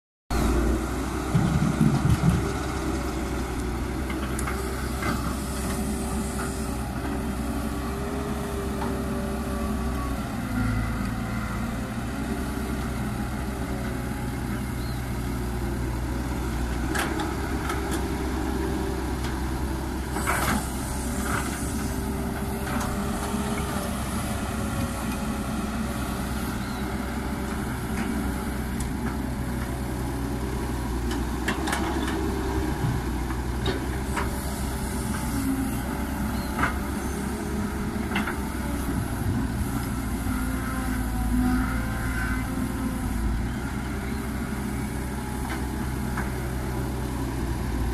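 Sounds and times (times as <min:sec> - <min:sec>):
diesel engine running: 0:00.3 - 0:47.9.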